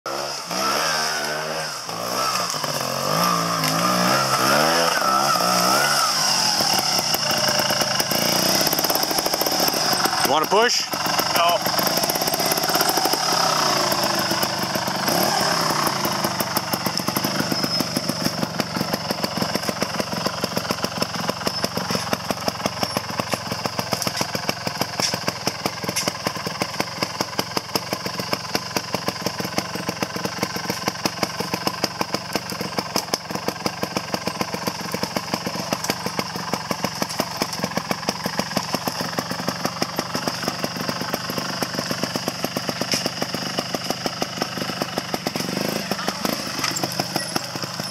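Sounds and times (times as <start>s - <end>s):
motorcycle engine idling: 0.1s - 47.9s.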